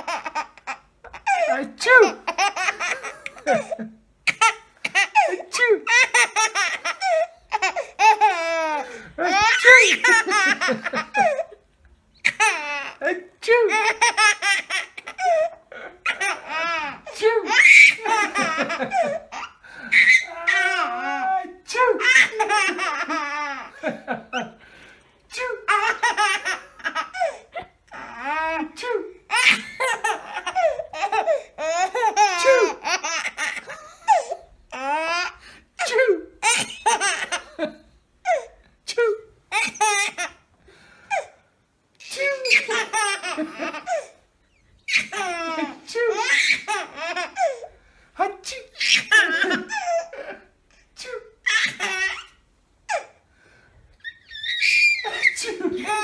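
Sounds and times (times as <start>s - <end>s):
baby laughing: 0.0s - 11.6s, 12.2s - 24.5s, 25.6s - 35.4s, 36.4s - 37.7s, 39.5s - 40.4s, 42.2s - 44.2s, 44.9s - 47.7s, 48.3s - 50.4s, 51.4s - 53.1s, 54.0s - 56.0s.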